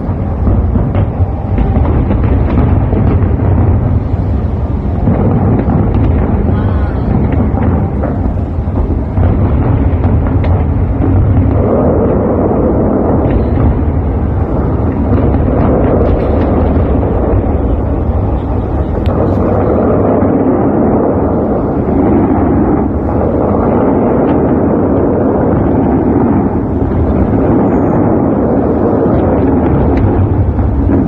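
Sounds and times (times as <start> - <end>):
fireworks barrage: 0.0 - 31.0.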